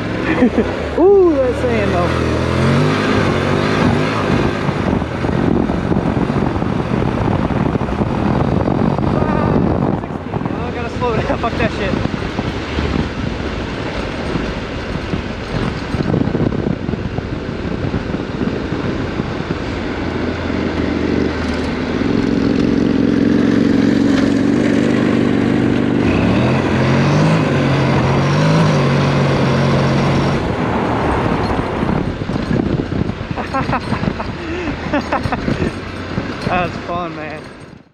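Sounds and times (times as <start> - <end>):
motorcycle engine revving: 0.0 - 37.7
wind rushing: 1.1 - 37.9.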